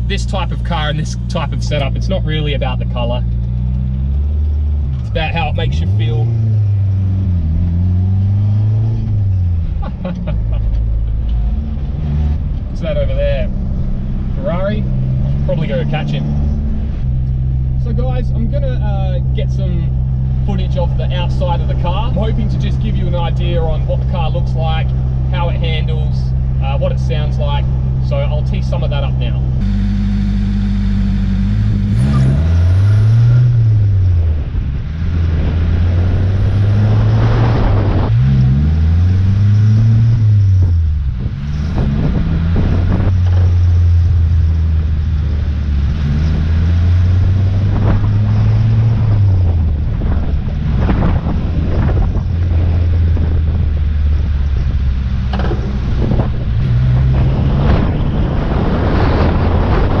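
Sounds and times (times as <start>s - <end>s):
car engine accelerating and cruising: 0.0s - 60.0s.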